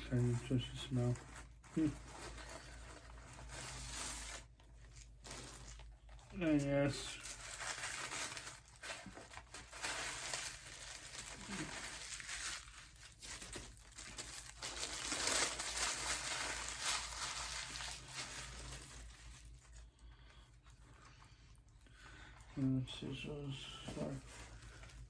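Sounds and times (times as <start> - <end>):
paper and plastic wrapping crinkling: 0.0 - 25.0.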